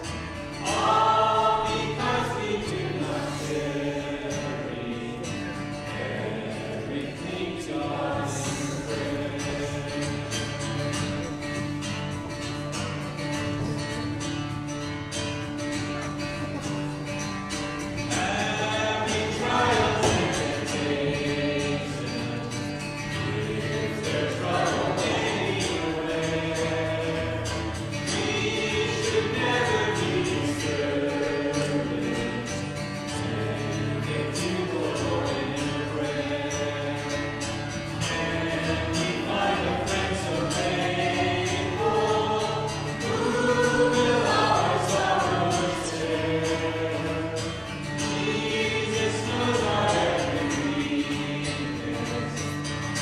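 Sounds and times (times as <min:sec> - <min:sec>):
acoustic guitar chords: 0:00.0 - 0:53.0
man and women singing: 0:00.5 - 0:11.5, 0:17.9 - 0:53.0.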